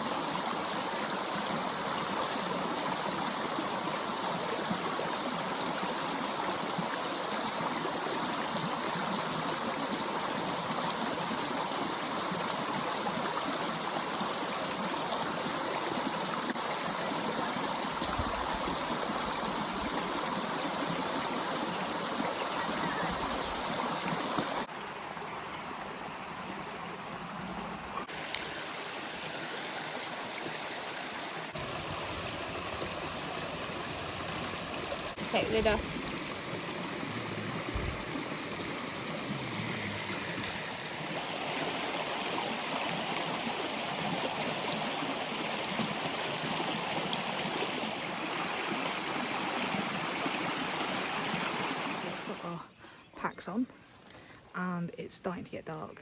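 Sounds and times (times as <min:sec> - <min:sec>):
stream water rushing: 0:00.0 - 0:52.6.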